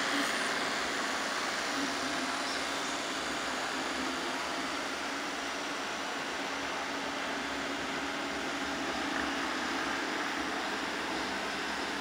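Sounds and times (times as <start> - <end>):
low even hum: 0.0 - 12.0.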